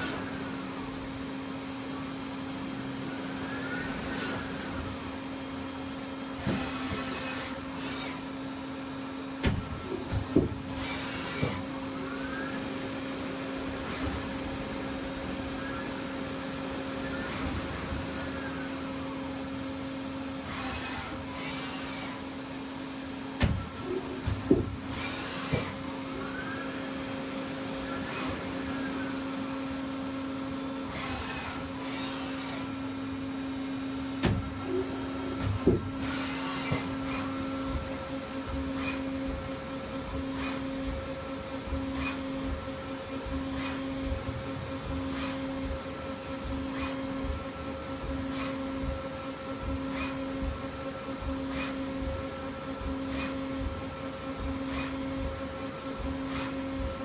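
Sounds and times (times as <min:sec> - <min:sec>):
lathe machine hum: 0:00.0 - 0:57.0.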